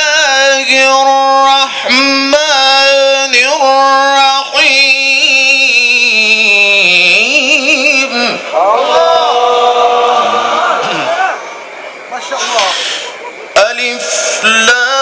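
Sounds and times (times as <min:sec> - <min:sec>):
man chanting melodically: 0:00.0 - 0:11.4, 0:13.5 - 0:15.0.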